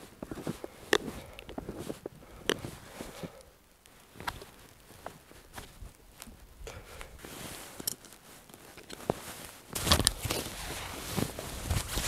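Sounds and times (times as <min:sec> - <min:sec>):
jacket and harness straps rustling: 0:00.0 - 0:12.0.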